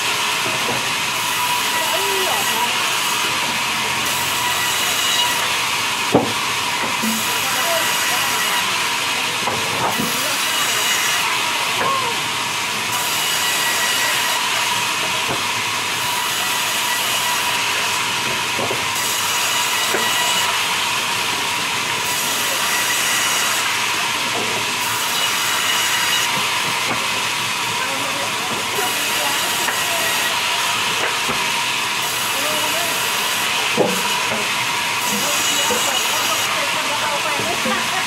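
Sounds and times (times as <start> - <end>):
band saw cutting logs: 0.0 - 38.0.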